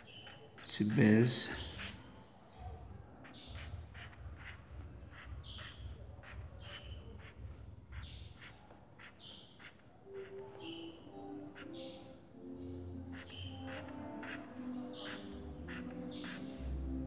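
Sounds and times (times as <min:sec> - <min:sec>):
marker scratching on paper: 0:00.0 - 0:12.2, 0:12.9 - 0:17.0
birds chirping: 0:00.0 - 0:17.0.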